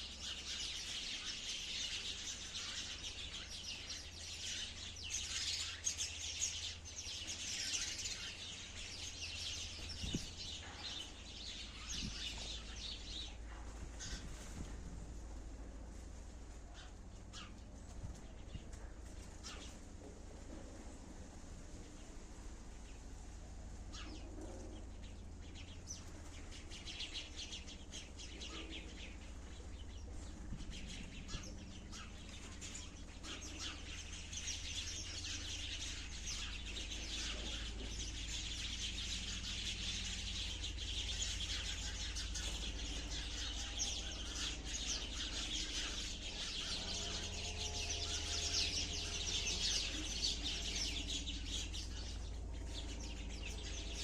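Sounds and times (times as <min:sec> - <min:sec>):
sparrows chirping: 0:00.0 - 0:20.6, 0:21.8 - 0:54.0
steady low hum: 0:00.0 - 0:54.0.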